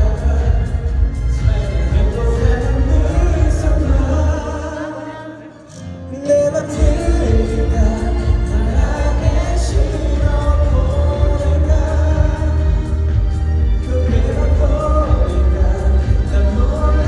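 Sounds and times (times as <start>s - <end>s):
amplified band playing: 0.0s - 17.0s
man singing pop ballad: 0.0s - 17.0s.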